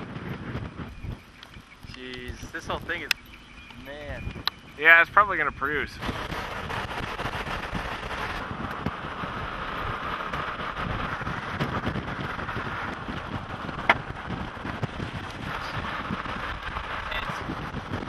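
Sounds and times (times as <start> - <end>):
car road and wind noise: 0.0 - 18.0
wind on microphone: 0.0 - 18.0.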